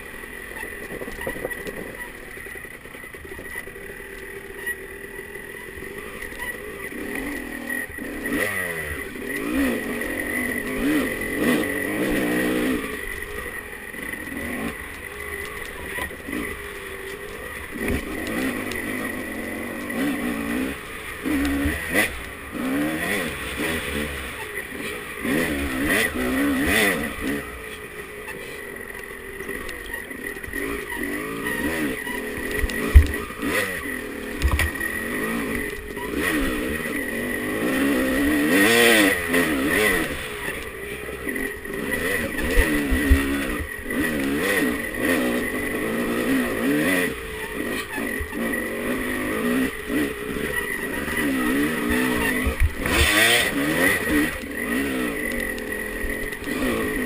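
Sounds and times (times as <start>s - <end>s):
dirt bike engine revving: 0.0s - 57.0s
sharp thumps over bumps: 0.6s - 4.3s, 14.1s - 57.0s.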